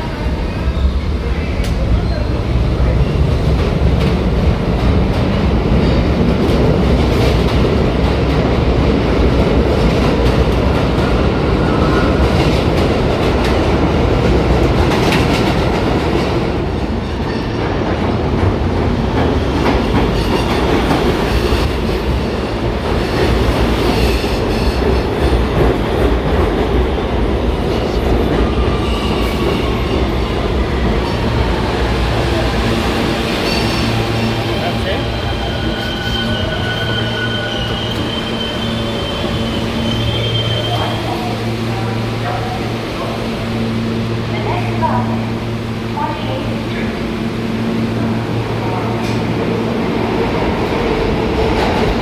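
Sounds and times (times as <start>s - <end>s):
subway train rumble: 0.0s - 52.0s.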